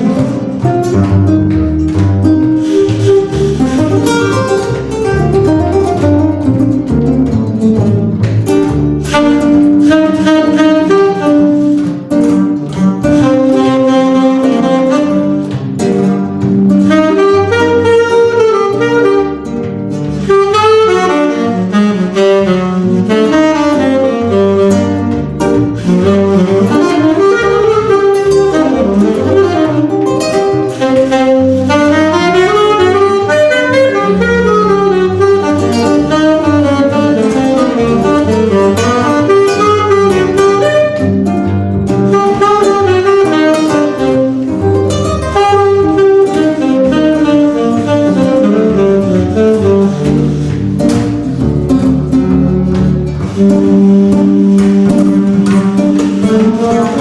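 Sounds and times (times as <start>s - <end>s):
bass line: 0.0s - 57.0s
chords: 0.0s - 57.0s
jazz melody line: 0.0s - 57.0s.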